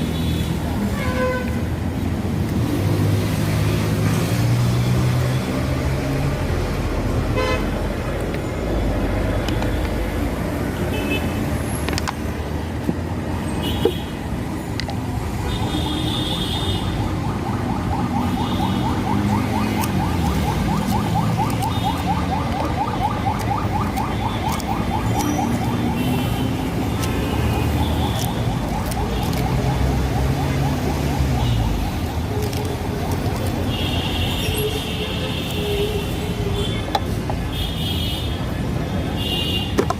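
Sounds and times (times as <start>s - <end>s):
street traffic: 0.0s - 39.9s.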